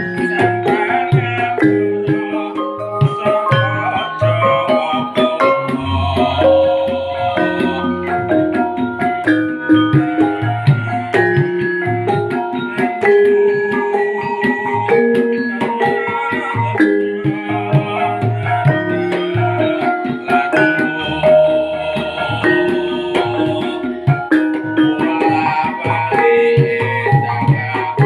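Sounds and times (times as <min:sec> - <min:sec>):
metallophones ringing notes: 0:00.0 - 0:28.0.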